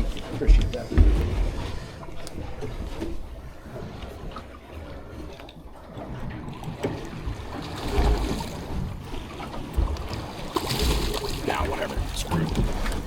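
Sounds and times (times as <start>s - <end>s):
water noise: 0.0s - 13.0s
wind: 0.0s - 13.0s.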